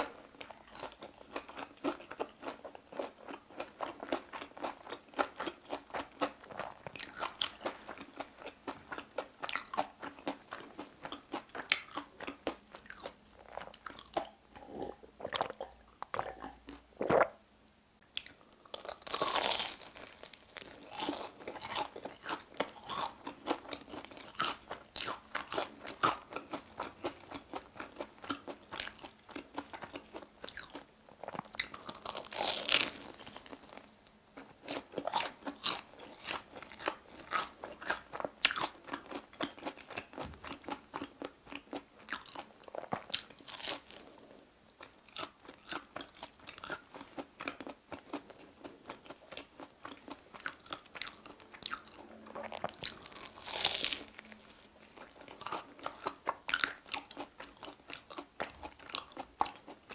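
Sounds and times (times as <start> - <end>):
crunching and chewing food: 0.0 - 17.4, 18.1 - 59.9.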